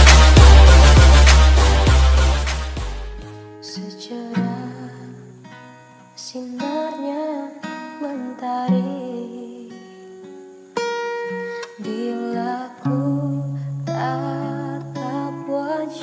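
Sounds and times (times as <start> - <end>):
acoustic guitar plucking: 0.0 - 16.0.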